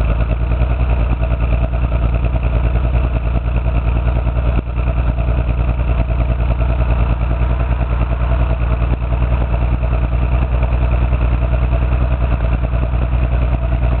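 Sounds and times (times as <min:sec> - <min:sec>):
engine idling roughly with misfire: 0:00.0 - 0:14.0.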